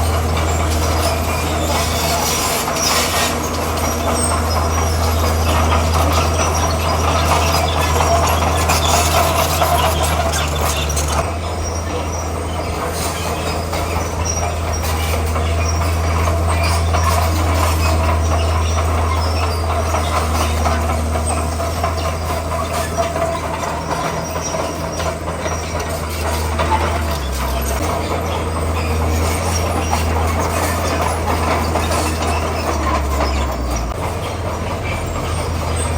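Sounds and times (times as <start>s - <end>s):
bulldozer diesel engine: 0.0s - 35.9s
steel tracks clanking and squealing: 0.0s - 35.9s.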